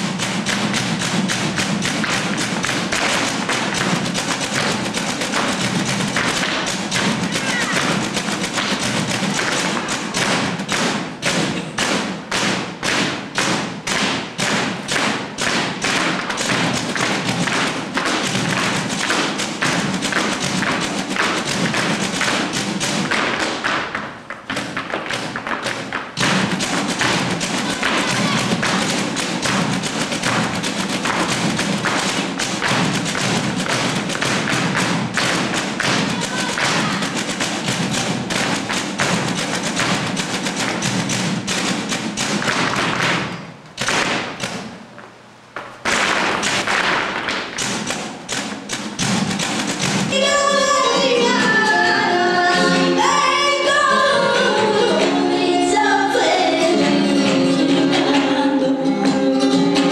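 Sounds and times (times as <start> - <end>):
shoes stamping on stage floor: 0.0 - 51.6
flamenco music: 0.0 - 59.9.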